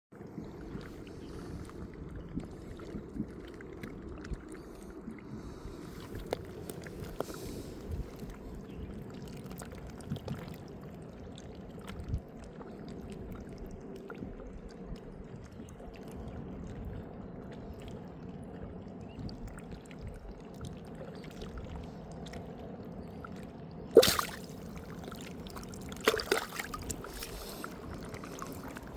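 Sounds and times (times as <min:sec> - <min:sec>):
water lapping around boat: 0:00.1 - 0:28.9.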